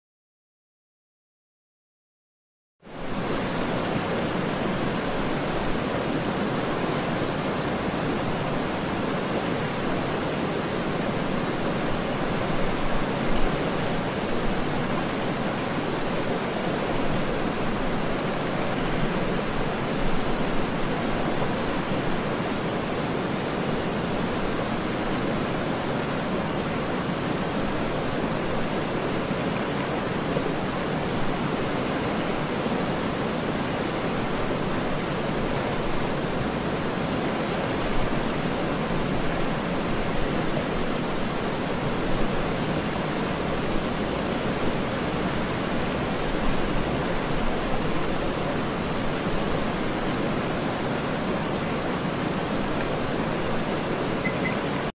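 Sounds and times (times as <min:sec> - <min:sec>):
turbulent river rushing: 0:02.9 - 0:54.9.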